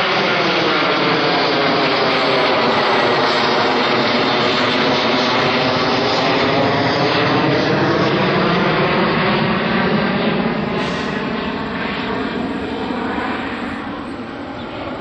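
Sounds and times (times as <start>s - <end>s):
jet airliner roar overhead: 0.0s - 15.0s.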